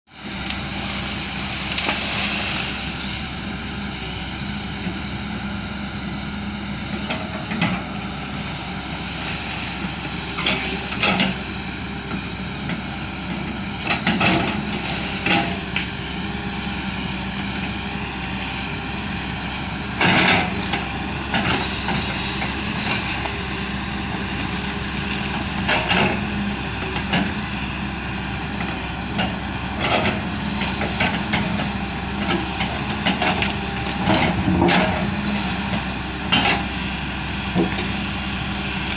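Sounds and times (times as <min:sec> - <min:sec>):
digger diesel engine whining: 0:00.0 - 0:38.9.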